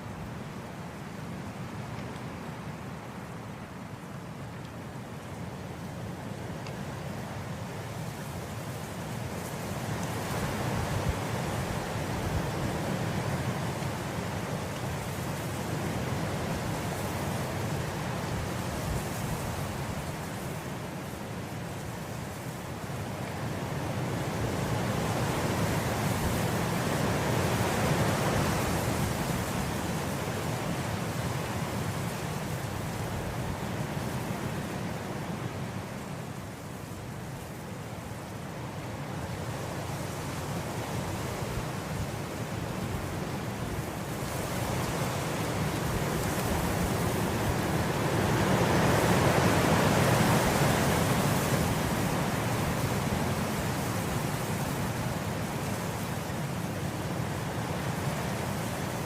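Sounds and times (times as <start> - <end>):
wind blowing through grass: 0.0 - 59.0.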